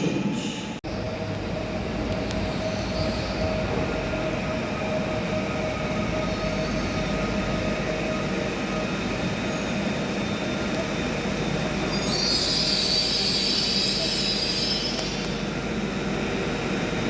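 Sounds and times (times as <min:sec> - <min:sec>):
train rumbling at platform: 0:00.0 - 0:17.0
steady humming tones: 0:00.6 - 0:17.0.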